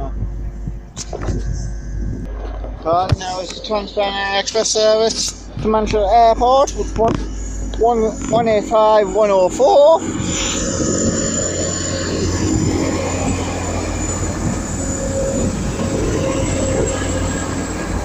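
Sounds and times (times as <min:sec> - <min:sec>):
diesel train engine drone: 0:00.0 - 0:18.0
train wheel and rail noise: 0:02.8 - 0:18.0.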